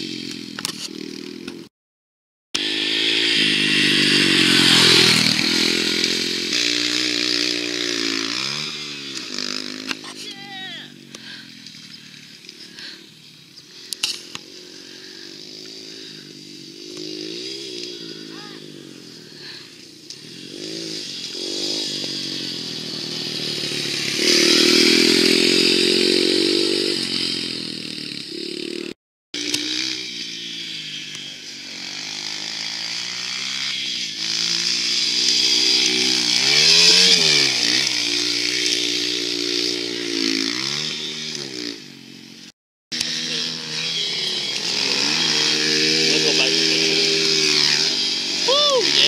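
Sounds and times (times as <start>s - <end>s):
dirt bike engines revving: 0.0s - 1.7s, 2.6s - 49.0s.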